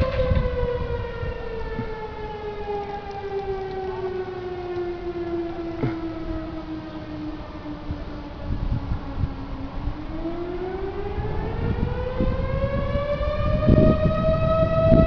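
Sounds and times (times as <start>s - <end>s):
fire siren winding up: 0.0s - 15.0s
gusty low rumble: 0.0s - 15.0s.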